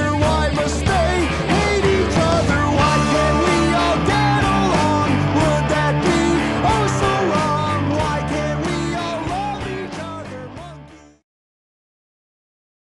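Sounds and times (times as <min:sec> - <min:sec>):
rock song with singing: 0:00.0 - 0:11.2.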